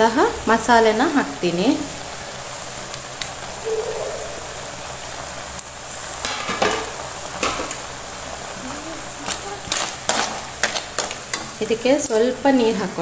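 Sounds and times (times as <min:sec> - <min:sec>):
clams sizzling in frying pan: 0:00.0 - 0:03.7, 0:04.5 - 0:13.0.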